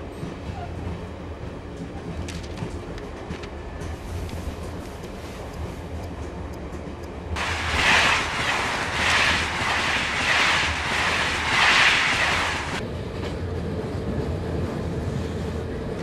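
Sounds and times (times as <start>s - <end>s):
train carriage rumble: 0.0s - 16.0s
train rushing at speed: 0.0s - 16.0s.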